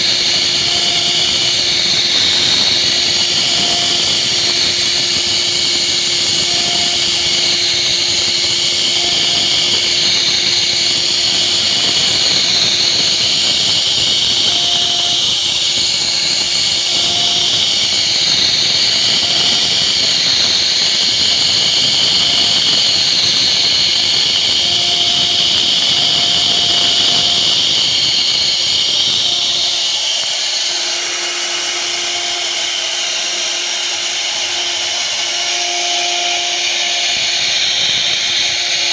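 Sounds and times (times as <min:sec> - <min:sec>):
router spindle cutting wood: 0:00.0 - 0:38.9.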